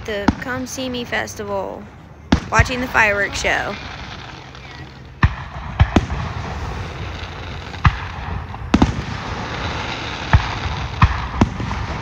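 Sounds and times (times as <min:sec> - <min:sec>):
steady rushing noise: 0:01.6 - 0:12.0
firework shells bursting: 0:02.3 - 0:12.0.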